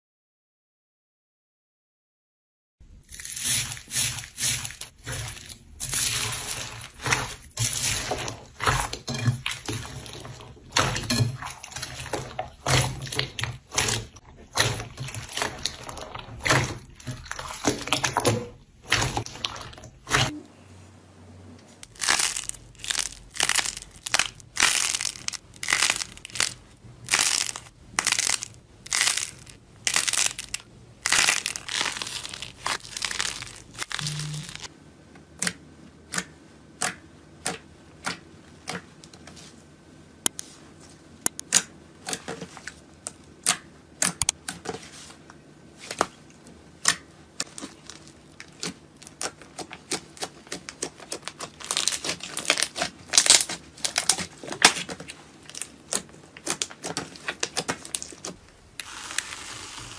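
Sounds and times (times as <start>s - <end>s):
slime squishing: 3.0s - 20.4s, 21.7s - 34.7s, 40.3s - 59.9s.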